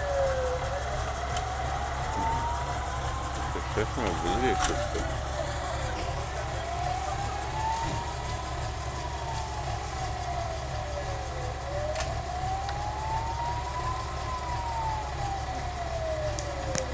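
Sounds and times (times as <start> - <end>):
low rumble: 0.0 - 16.9
siren wailing: 0.0 - 16.9.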